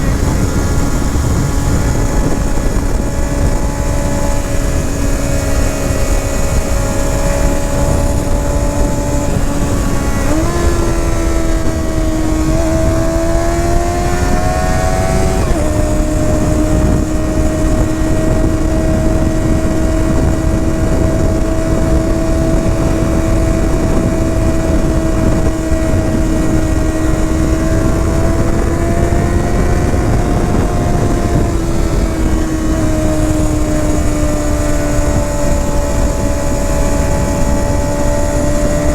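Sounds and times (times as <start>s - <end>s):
motorcycle engine and exhaust: 0.0s - 38.9s
wind rushing: 0.0s - 38.9s.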